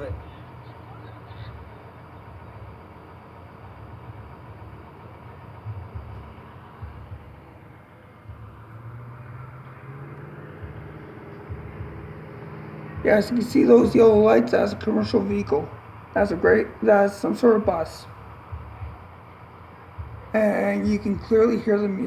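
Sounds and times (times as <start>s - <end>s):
bus engine idling: 0.0s - 22.0s
distant amplified bar music: 0.0s - 22.0s.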